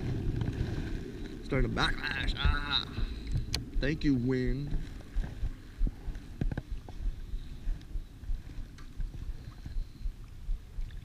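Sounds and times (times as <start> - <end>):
water lapping: 0.0 - 11.0
wind gusting over microphone: 0.0 - 11.0.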